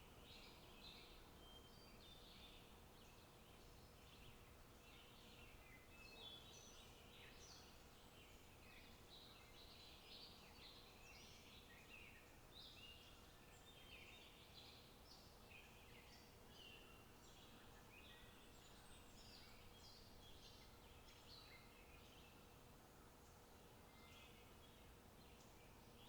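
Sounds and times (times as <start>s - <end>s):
low steady background hiss: 0.0s - 26.0s.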